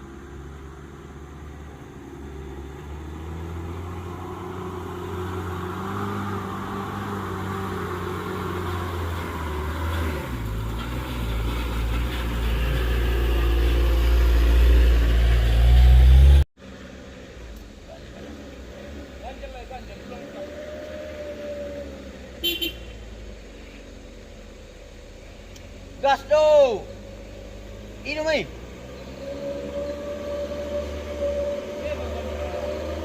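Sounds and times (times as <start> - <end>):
heavy vehicle engine climbing: 0.0 - 33.0.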